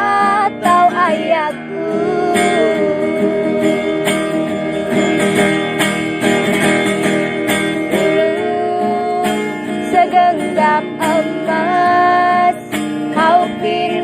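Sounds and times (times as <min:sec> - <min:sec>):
instrumental guitar music: 0:00.0 - 0:14.0.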